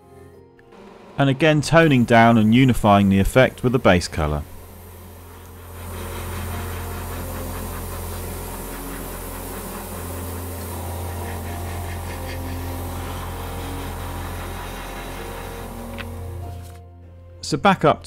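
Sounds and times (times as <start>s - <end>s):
air compressor humming: 0.6s - 17.0s
airbrush spraying hiss: 0.8s - 16.8s.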